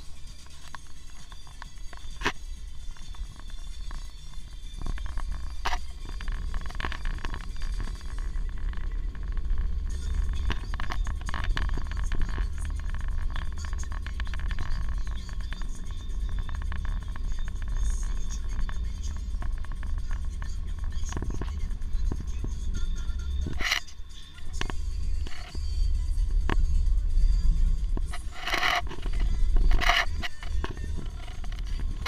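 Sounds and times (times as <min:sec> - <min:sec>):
car engine rumble: 0:00.0 - 0:32.0
tyre road noise: 0:00.0 - 0:32.0.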